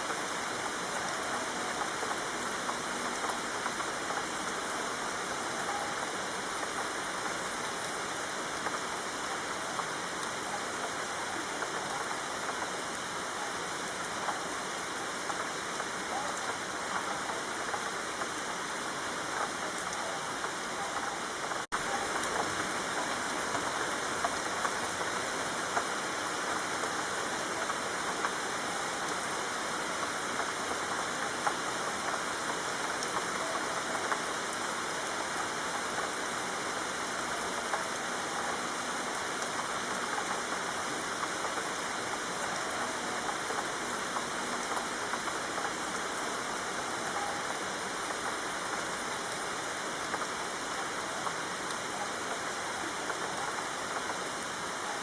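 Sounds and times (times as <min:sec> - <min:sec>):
steady rain hissing: 0:00.0 - 0:55.0
raindrop ticks: 0:00.1 - 0:55.0.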